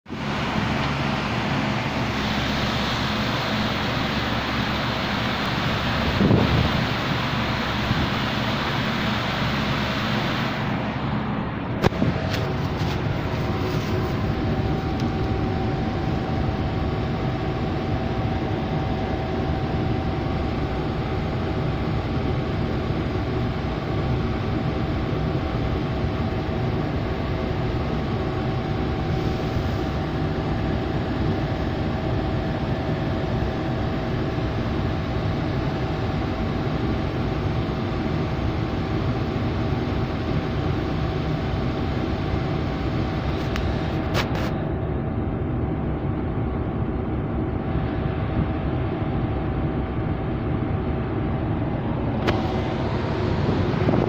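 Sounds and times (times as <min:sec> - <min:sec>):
air conditioner fan rushing: 0:00.1 - 0:54.0
steady hum tone: 0:00.1 - 0:54.0.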